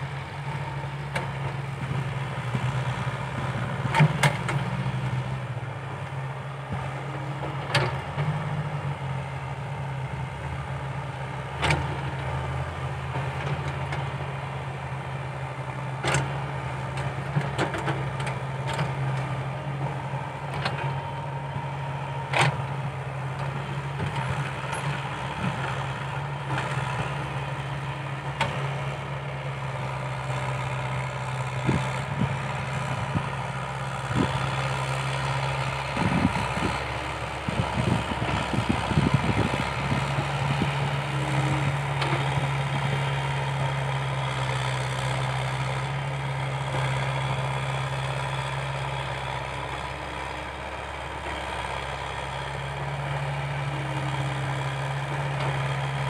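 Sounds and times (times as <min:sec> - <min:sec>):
excavator diesel engine drone: 0:00.0 - 0:56.0.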